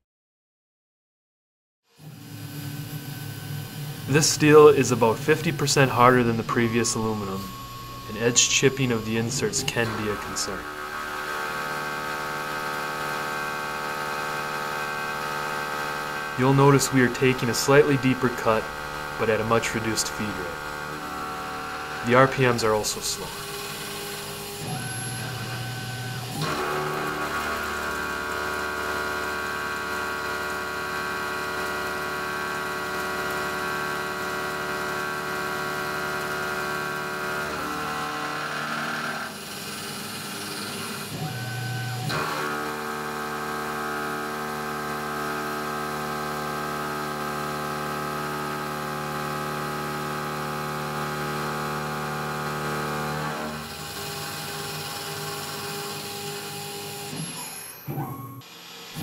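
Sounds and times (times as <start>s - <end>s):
milling machine cutting steel: 2.0s - 59.0s.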